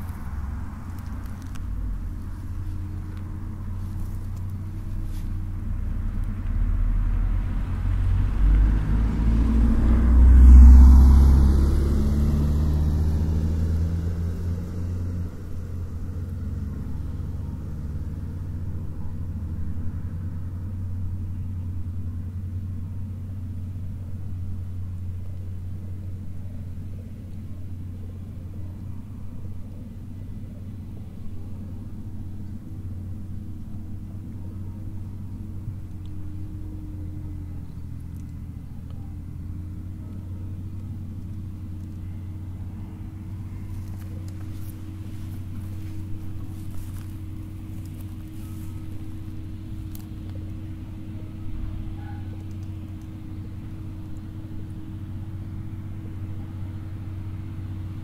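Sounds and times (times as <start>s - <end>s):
steady low rumble: 0.0s - 58.0s
vehicle passing by: 0.0s - 58.0s.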